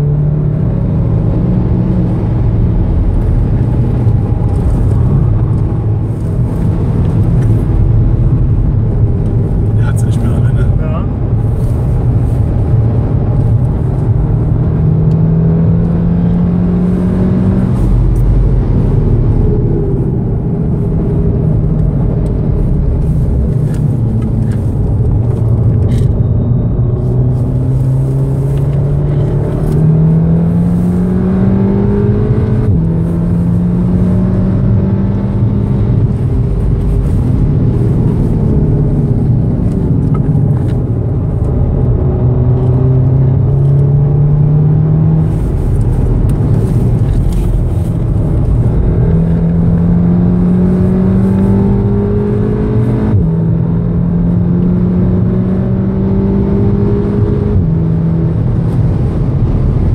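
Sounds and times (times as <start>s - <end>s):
road and tyre rumble: 0.0s - 59.9s
car engine revving hard: 9.1s - 24.7s, 27.0s - 59.9s.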